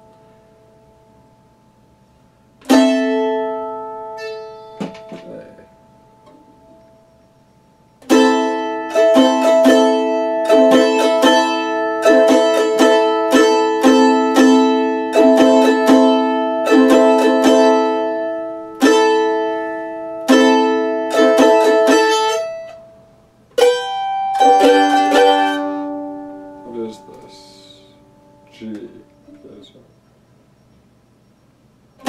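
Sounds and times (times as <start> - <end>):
mandolin strumming chords: 0.0 - 7.2, 8.0 - 29.7.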